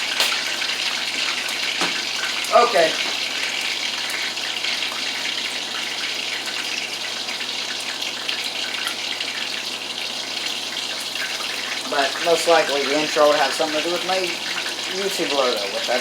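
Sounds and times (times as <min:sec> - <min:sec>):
chicken sizzling in frying pan: 0:00.0 - 0:16.0.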